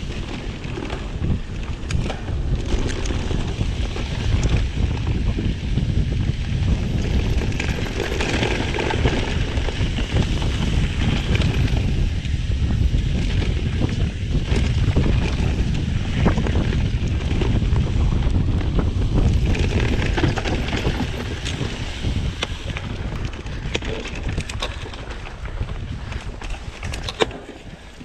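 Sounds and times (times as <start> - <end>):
low rumble with rattles: 0.0 - 28.0
wind buffeting microphone: 0.0 - 28.0.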